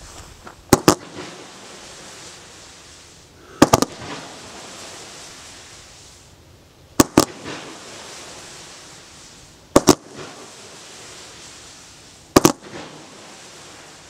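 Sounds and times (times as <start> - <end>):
firework hiss: 0.0 - 14.0
firework launch reports: 0.6 - 14.0.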